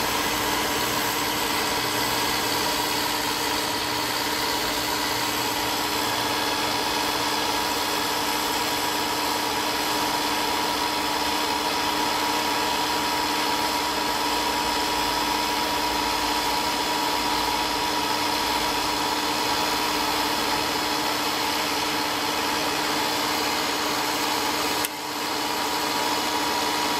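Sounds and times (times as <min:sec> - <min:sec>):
constant machine whine: 0:00.0 - 0:26.9
milling machine motor hum: 0:00.0 - 0:26.9.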